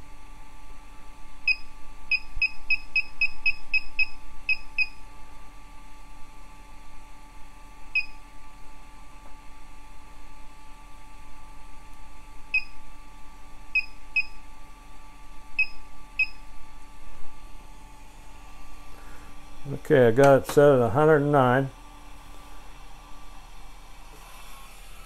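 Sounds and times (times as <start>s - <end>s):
blower fan humming: 0.0s - 25.0s.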